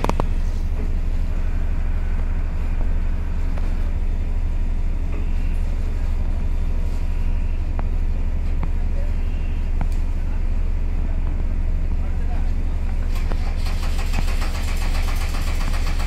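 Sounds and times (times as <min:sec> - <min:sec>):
ship machinery rumble: 0:00.0 - 0:16.0.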